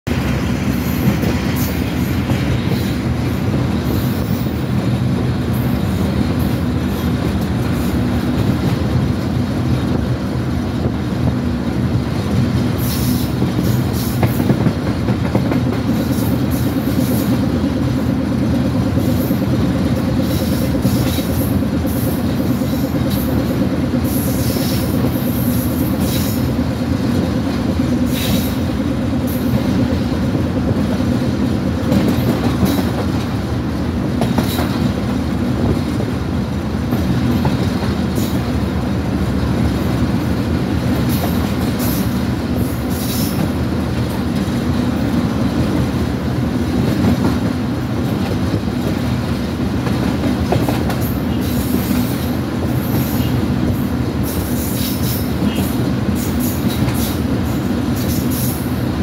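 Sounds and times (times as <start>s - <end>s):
locomotive engine drone: 0.0s - 59.0s
wind: 0.0s - 59.0s.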